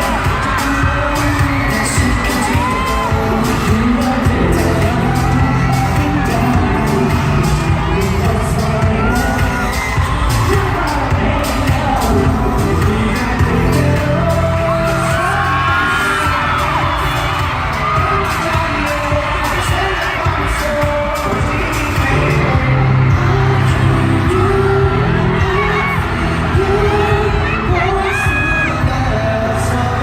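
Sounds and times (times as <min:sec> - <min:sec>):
crowd screaming and singing along: 0:00.0 - 0:30.0
pop song over concert speakers: 0:00.0 - 0:30.0.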